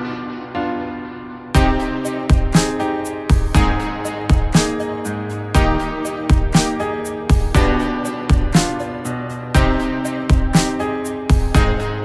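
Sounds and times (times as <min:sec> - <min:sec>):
soft sustained music notes: 0:00.0 - 0:12.0.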